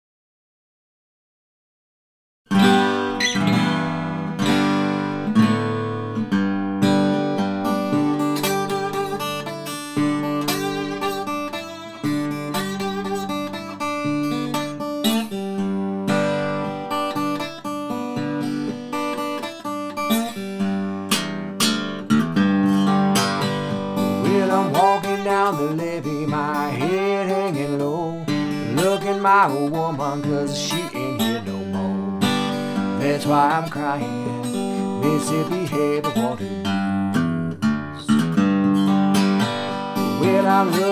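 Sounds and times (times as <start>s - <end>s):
slide acoustic guitar blues: 2.5s - 40.9s.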